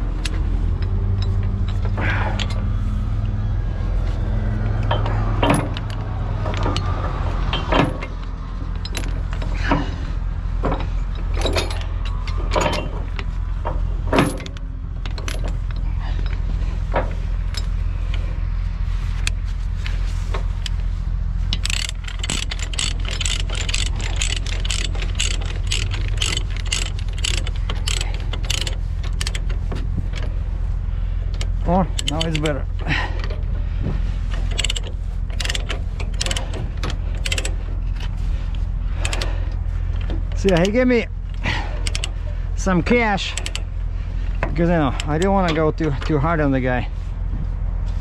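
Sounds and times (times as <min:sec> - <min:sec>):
sharp clicks and knocks: 0:00.0 - 0:18.4, 0:19.1 - 0:30.6, 0:31.2 - 0:46.5
truck engine droning: 0:00.0 - 0:48.0.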